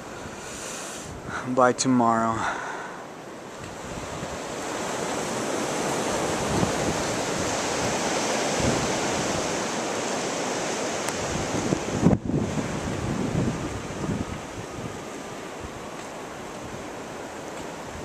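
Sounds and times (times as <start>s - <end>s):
blizzard wind blowing: 0.0s - 18.0s
wind gusts buffeting microphone: 0.0s - 18.0s.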